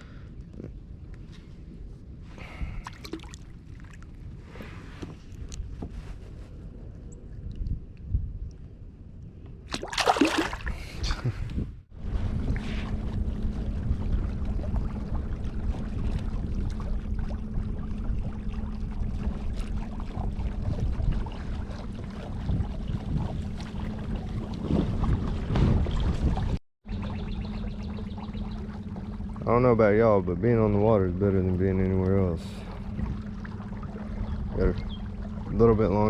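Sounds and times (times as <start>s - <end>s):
constant low hum: 0.0s - 36.0s
wind: 0.0s - 36.0s
water noise: 2.3s - 6.0s, 9.6s - 11.4s, 12.3s - 36.0s.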